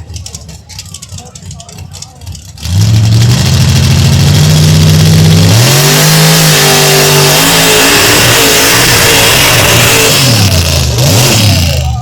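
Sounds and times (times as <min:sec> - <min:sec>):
truck engine at full throttle: 0:00.0 - 0:12.0.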